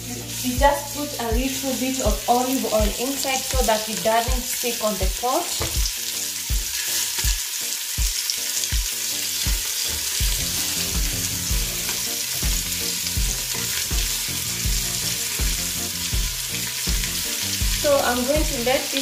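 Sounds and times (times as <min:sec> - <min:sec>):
ribs sizzling in oil: 0:00.0 - 0:19.0.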